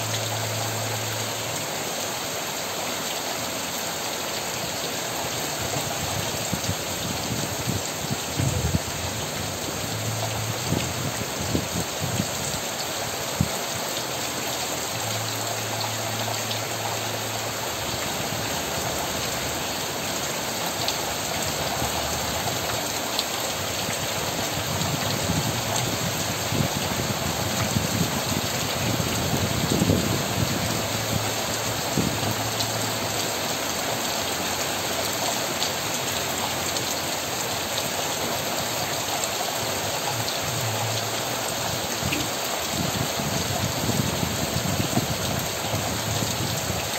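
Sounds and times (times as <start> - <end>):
steady rain on leaves: 0.0 - 46.9.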